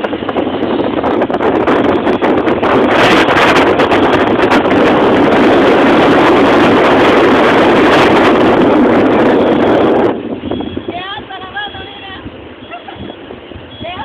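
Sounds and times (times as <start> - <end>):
road noise: 0.0 - 14.0
wind buffeting microphone: 0.0 - 14.0
wind rushing: 0.0 - 14.0.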